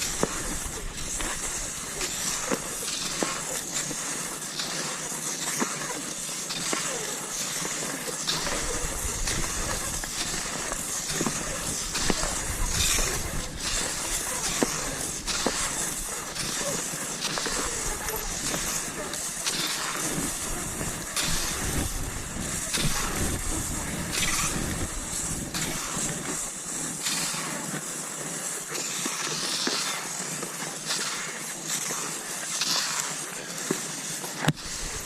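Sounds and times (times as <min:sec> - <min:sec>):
skis gliding over snow: 0:00.0 - 0:35.0.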